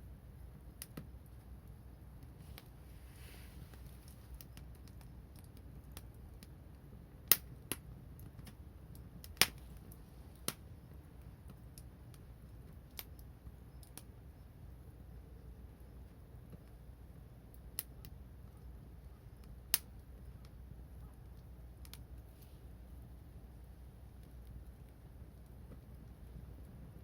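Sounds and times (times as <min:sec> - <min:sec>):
faint low rumble: 0:00.0 - 0:27.0
wood fire popping: 0:00.1 - 0:27.0.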